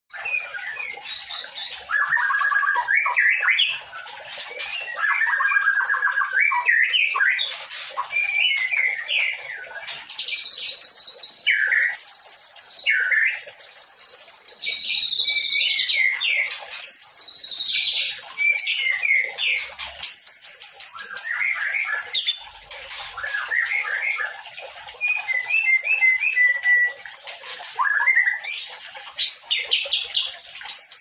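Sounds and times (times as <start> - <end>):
bird singing whistled trills: 0.1 - 31.0.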